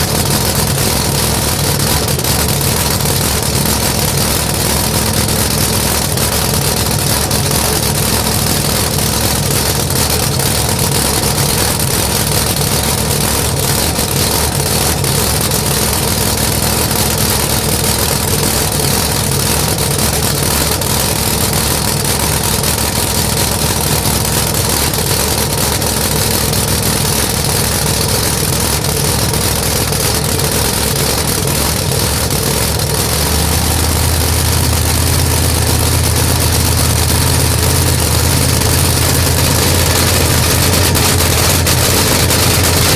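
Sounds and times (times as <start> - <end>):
loud engine idling: 0.0 - 42.9.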